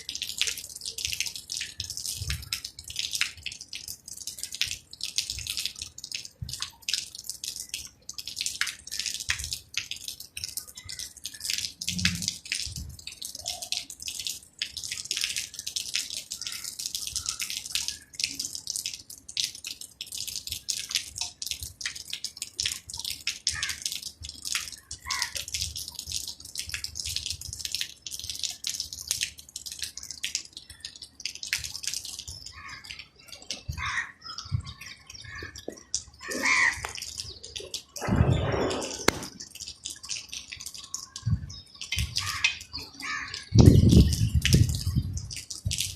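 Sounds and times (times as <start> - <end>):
rain falling and dripping: 0.0 - 45.9.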